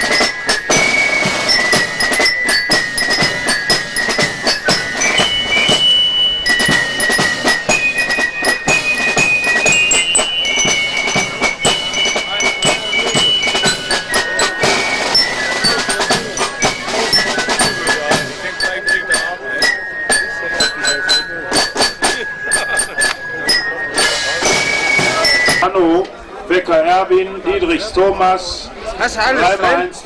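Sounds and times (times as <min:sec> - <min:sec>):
snare drums: 0:00.0 - 0:25.7
bell lyres ringing melody: 0:00.0 - 0:26.0.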